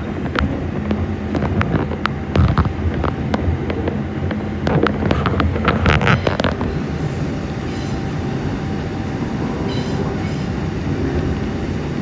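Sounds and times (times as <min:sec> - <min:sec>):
subway train rumble: 0:00.0 - 0:12.0
wheels clicking on track: 0:00.0 - 0:12.0.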